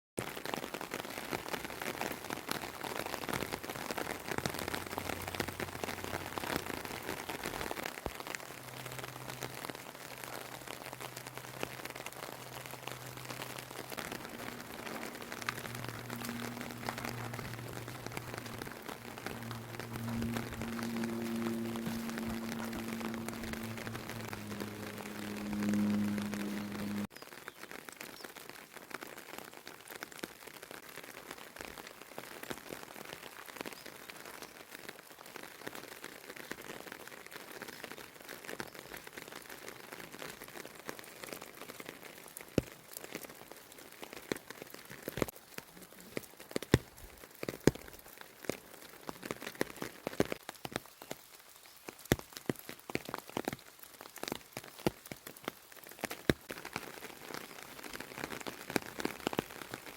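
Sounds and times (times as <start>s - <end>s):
rain pattering: 0.2s - 59.9s.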